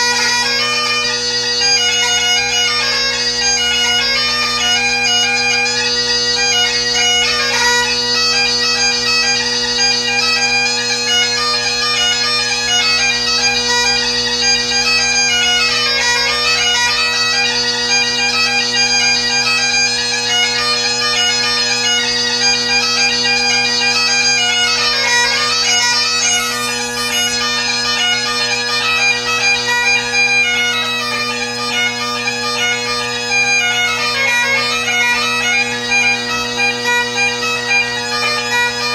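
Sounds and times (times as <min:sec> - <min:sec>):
bagpipe chanter melody: 0:00.0 - 0:38.9
bagpipe drones: 0:00.0 - 0:38.9.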